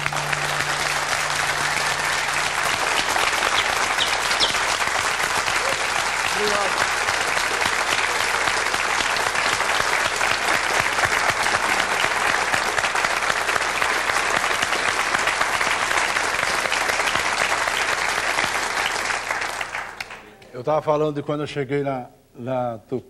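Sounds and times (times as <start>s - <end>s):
audience applauding: 0.0s - 20.5s.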